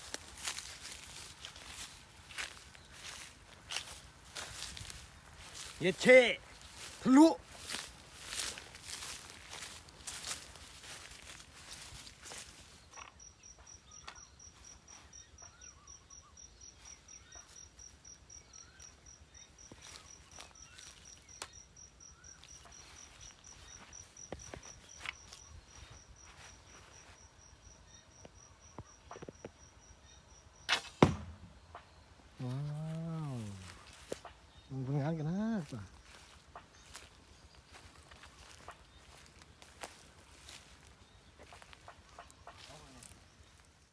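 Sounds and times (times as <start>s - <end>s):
insect chirping: 0.0s - 30.8s, 31.4s - 43.9s.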